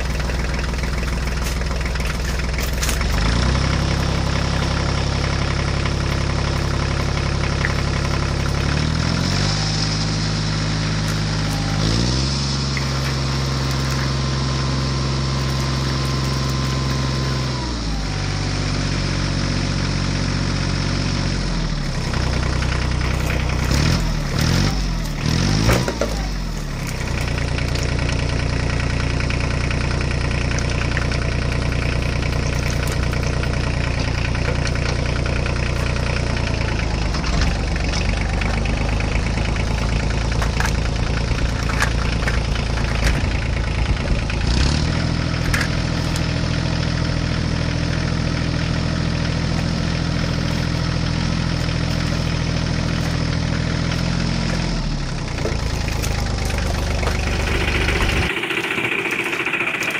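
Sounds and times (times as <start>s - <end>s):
small tractor engine droning: 0.0s - 59.9s.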